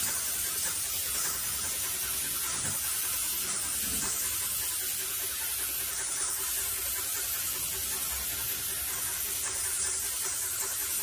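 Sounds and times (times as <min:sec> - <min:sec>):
spray paint hissing: 0:00.0 - 0:11.0.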